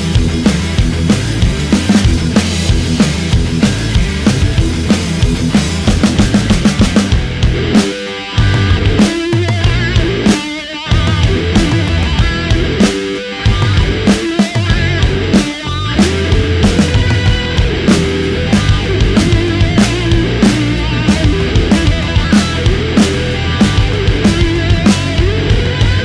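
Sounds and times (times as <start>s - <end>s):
distorted guitar: 0.0s - 26.0s
drum beat: 0.0s - 26.0s
rock music: 0.0s - 26.0s.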